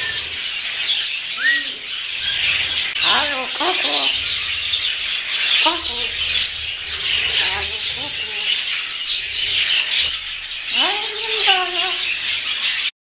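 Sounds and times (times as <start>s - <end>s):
high chirping: 0.0s - 12.9s
parrot calling: 0.0s - 12.9s.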